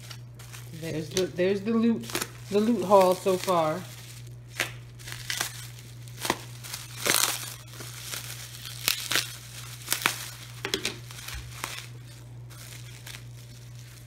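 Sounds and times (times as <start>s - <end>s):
steady low hum: 0.0s - 14.0s
tissue paper crinkling: 0.0s - 14.0s.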